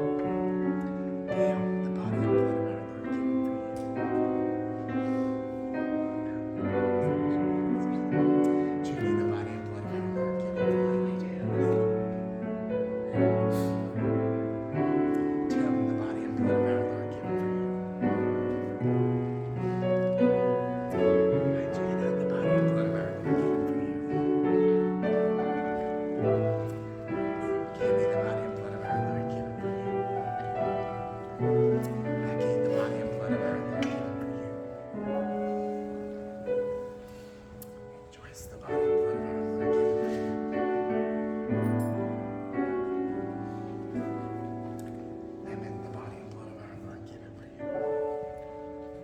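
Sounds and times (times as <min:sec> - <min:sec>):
piano playing slow chords: 0:00.0 - 0:49.0
slow keyboard music: 0:00.0 - 0:49.0.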